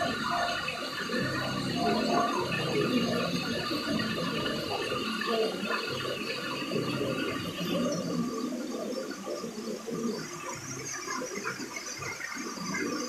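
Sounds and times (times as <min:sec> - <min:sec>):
small waterfall splashing: 0:00.0 - 0:13.0
water trickling and dripping: 0:00.0 - 0:13.0.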